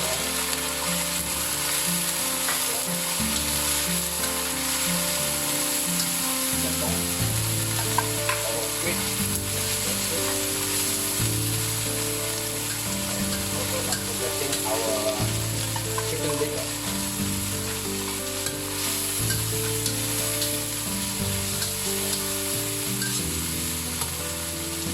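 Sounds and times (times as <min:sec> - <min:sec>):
meat frying in lard: 0:00.0 - 0:24.9.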